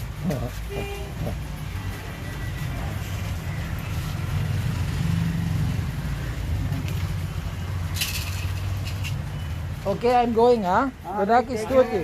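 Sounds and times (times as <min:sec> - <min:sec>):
road traffic engine rumble: 0:00.0 - 0:12.0.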